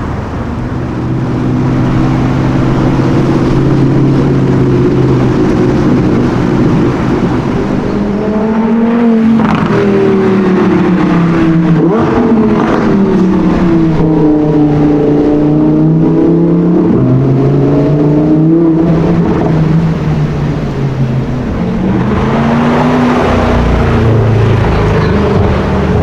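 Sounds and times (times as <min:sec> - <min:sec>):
rushing noise: 0:00.0 - 0:26.0
sports car engine under load: 0:00.0 - 0:26.0.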